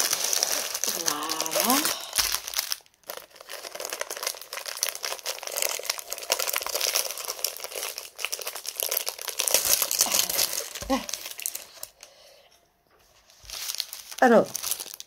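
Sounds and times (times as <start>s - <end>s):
plastic packaging crinkling: 0.0s - 12.1s, 13.2s - 15.0s.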